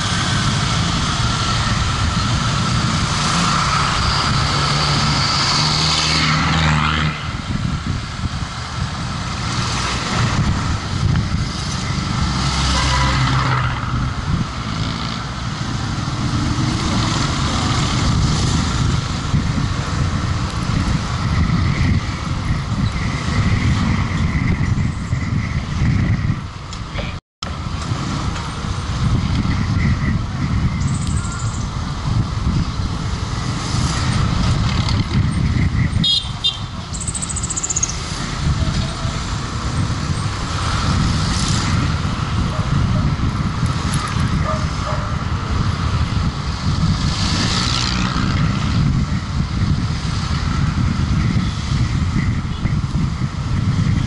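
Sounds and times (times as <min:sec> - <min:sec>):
road vehicle engine and tyres rumbling: 0:00.0 - 0:54.0
surrounding traffic: 0:00.0 - 0:54.0.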